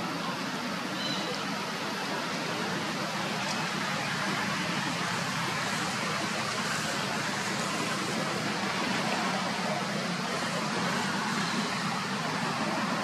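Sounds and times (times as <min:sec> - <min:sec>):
steady background rush: 0:00.0 - 0:13.0.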